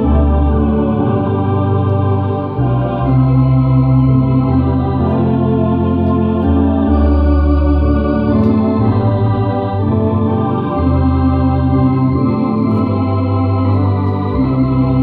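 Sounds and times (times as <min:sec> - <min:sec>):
electronic organ playing a hymn: 0:00.0 - 0:15.0.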